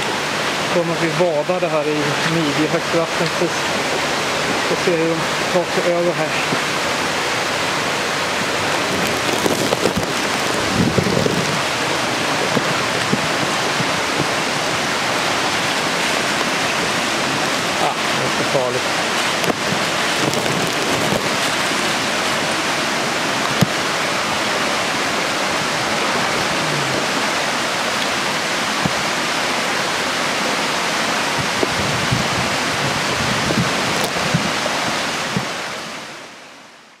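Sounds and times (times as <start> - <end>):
waterfalls over boulders: 0.0 - 37.0.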